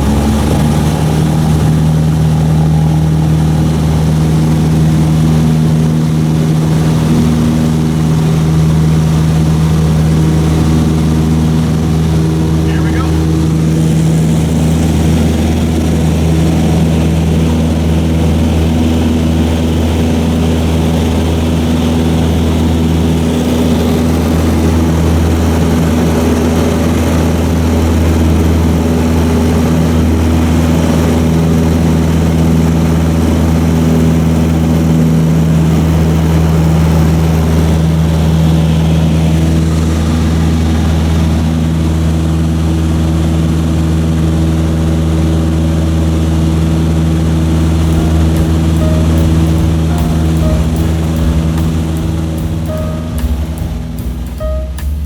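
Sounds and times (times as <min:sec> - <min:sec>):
light aircraft engine and propeller: 0:00.0 - 0:54.5.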